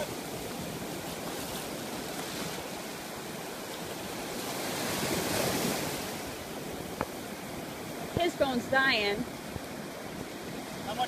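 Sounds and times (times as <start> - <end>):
ocean surf on sandy beach: 0.0 - 11.0.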